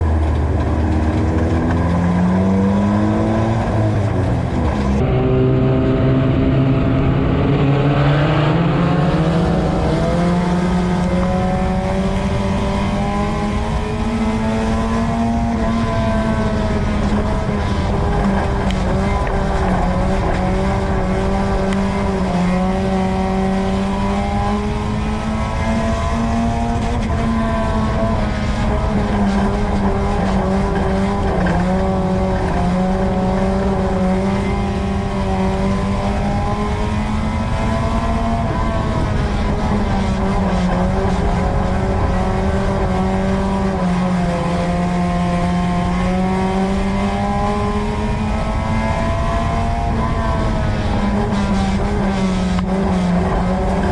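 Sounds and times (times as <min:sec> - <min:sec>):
race car engine revving: 0:00.0 - 0:53.9
wind and road noise: 0:00.0 - 0:53.9.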